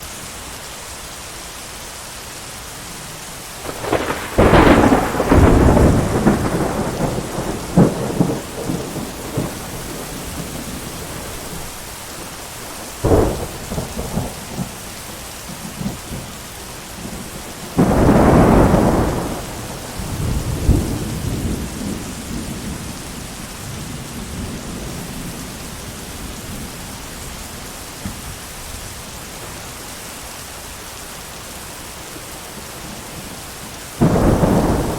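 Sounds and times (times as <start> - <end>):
heavy rain: 0.0 - 34.9
thunder rumbling: 3.6 - 29.6, 32.8 - 34.9.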